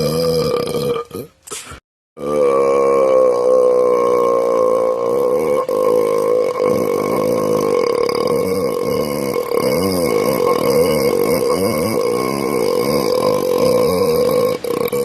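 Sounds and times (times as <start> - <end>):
person belching: 0.0 - 1.4, 2.2 - 15.0.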